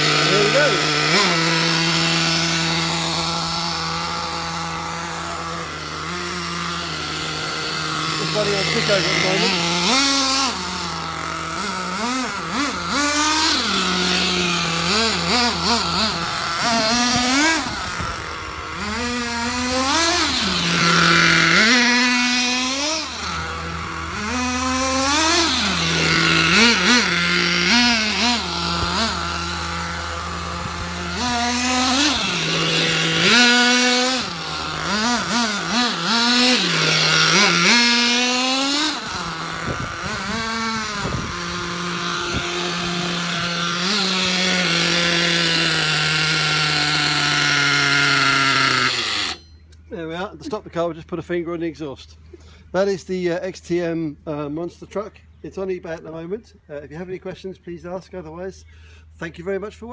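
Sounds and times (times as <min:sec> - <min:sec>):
small nitro engine revving: 0:00.0 - 0:49.6.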